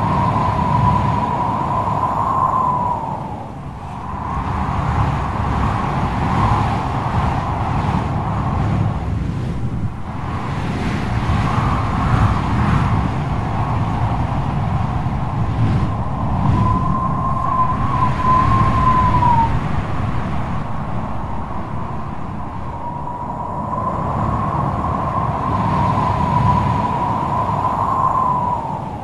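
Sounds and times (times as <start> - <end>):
strong wind roaring: 0.0 - 29.0.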